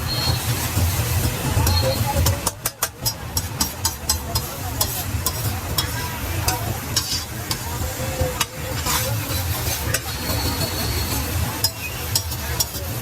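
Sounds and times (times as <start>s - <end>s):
frying sizzle: 0.0s - 13.0s
metal spatula scraping griddle: 0.0s - 13.0s.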